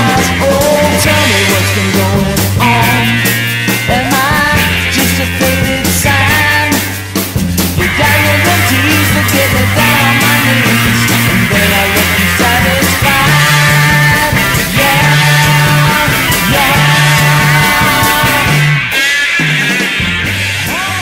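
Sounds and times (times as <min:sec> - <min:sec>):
music with drum beat and bass: 0:00.0 - 0:21.0.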